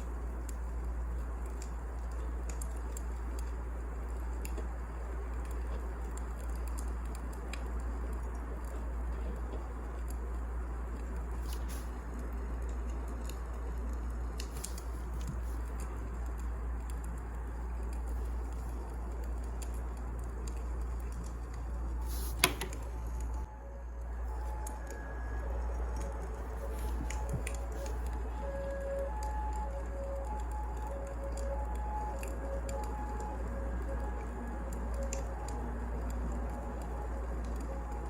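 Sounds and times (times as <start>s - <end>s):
faint held musical tones: 0.0s - 38.0s
wood fire crackling: 0.0s - 38.0s.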